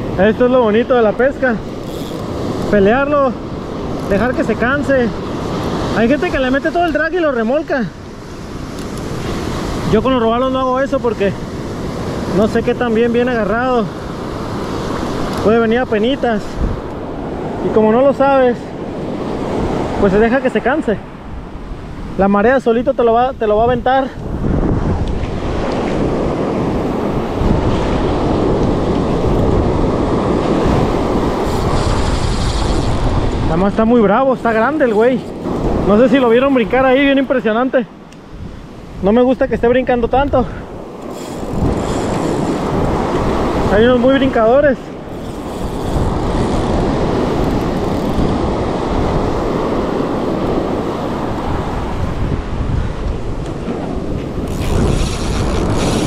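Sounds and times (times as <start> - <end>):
surf washing onto beach: 0.0 - 56.0
wind buffeting microphone: 0.0 - 56.0.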